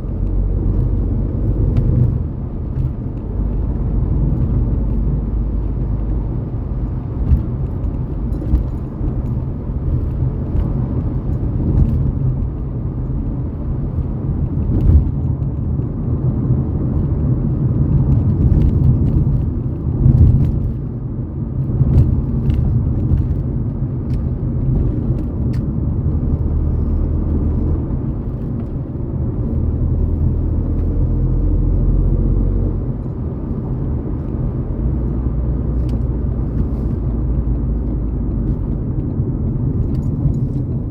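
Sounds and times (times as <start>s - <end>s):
car engine and exhaust rumble: 0.0s - 40.9s.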